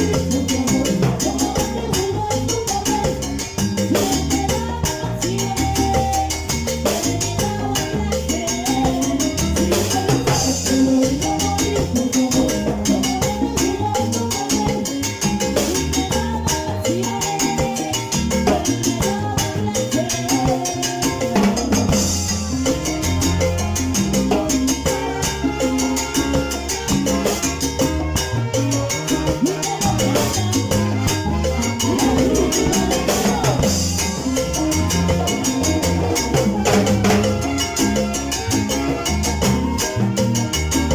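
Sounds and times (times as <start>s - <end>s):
bass line: 0.0s - 40.9s
drums and percussion: 0.0s - 40.9s
salsa band playing: 0.0s - 40.9s.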